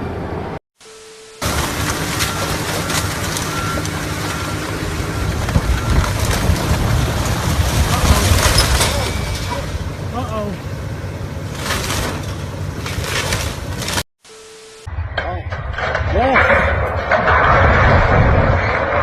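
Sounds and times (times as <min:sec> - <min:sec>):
vehicle engine rough rumbling: 0:01.4 - 0:14.0, 0:15.0 - 0:19.0.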